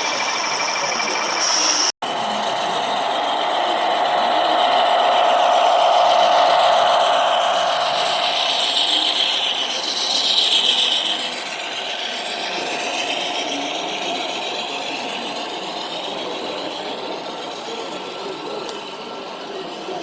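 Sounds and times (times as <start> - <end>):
model train whirring on track: 0.0 - 20.0.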